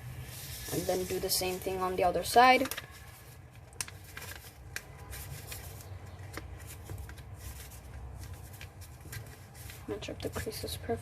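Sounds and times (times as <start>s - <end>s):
paper rustling and crinkling: 0.2s - 11.0s.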